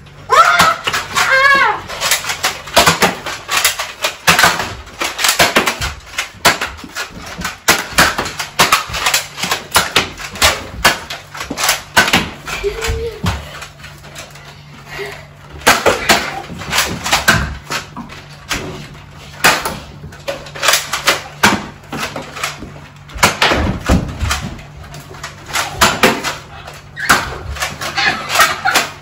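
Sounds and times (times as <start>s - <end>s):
darts striking walls: 2.0s - 12.6s, 15.5s - 29.0s.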